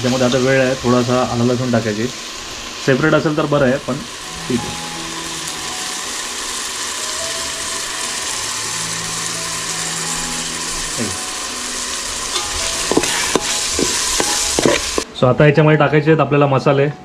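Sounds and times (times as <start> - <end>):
onion and tomato sizzling in oil: 0.0 - 15.1.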